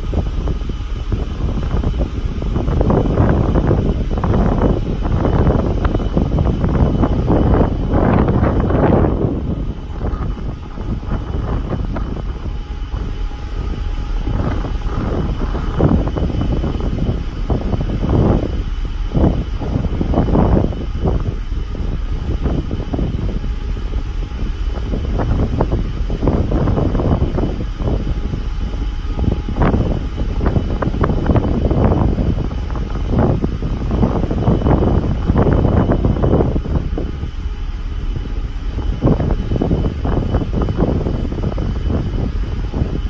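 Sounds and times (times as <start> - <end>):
steady low rumble: 0.0 - 43.0
wind buffeting microphone: 0.0 - 43.0.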